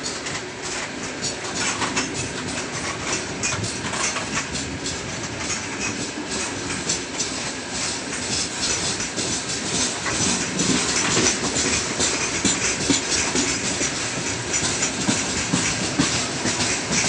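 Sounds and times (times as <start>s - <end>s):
sharp wheel clacks: 0.0s - 17.0s
steel wheels rumbling on rail: 0.0s - 17.0s.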